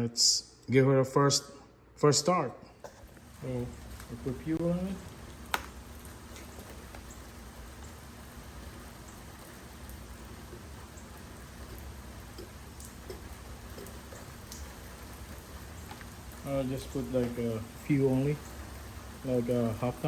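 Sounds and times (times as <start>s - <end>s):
steady rain patter: 2.9s - 20.0s
water drips: 2.9s - 20.0s.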